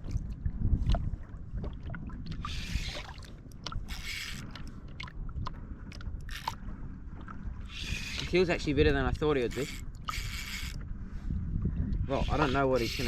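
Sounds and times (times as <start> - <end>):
water moving around kayak: 0.0 - 13.0
wind rumbling on microphone: 0.0 - 13.0.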